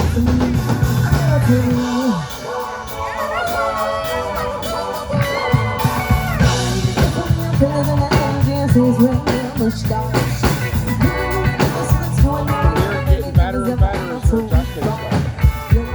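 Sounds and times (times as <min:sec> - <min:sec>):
bass line: 0:00.0 - 0:03.0, 0:05.0 - 0:15.9
person singing: 0:00.0 - 0:15.9
rock band playing: 0:00.0 - 0:15.9.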